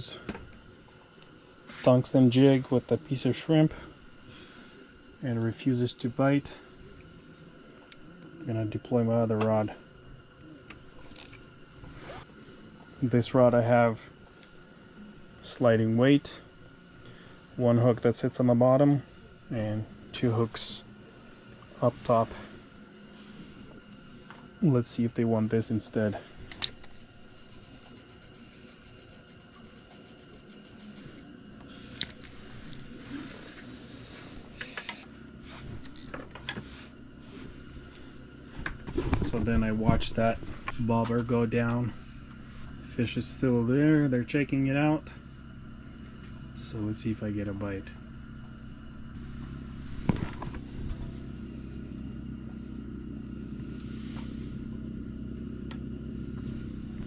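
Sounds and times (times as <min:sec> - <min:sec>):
faint high-pitched whine: 0:00.0 - 0:57.0
low mechanical hum: 0:00.0 - 0:57.0.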